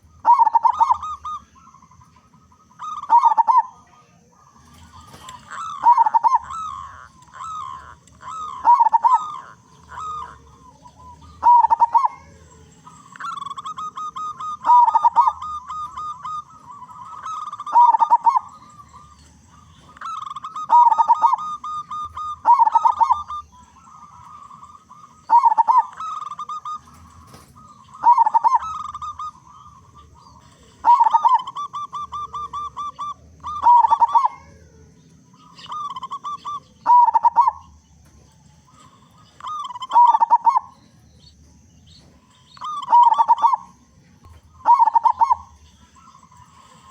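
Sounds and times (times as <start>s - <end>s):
doves cooing: 0.0s - 46.9s
soft trilling coo: 0.0s - 46.9s.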